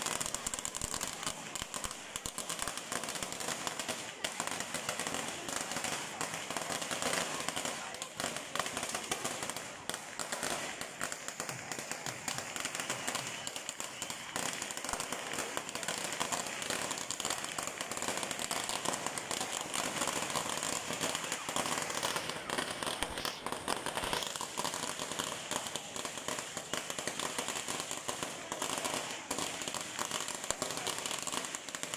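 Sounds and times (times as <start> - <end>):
crowd voices: 0.0 - 31.9
firecrackers popping: 0.0 - 31.9.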